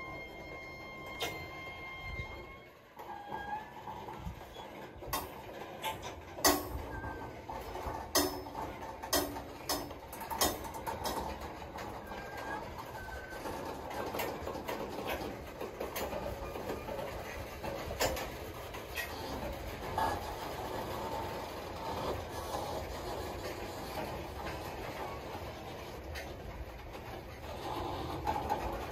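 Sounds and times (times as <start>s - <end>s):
train rumble: 0.0s - 28.9s
train wheels clacking on rail joints: 0.0s - 28.9s.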